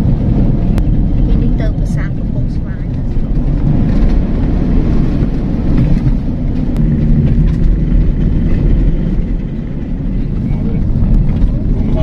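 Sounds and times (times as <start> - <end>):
tyre noise on road: 0.0 - 12.0
vehicle engine rumble: 0.0 - 12.0.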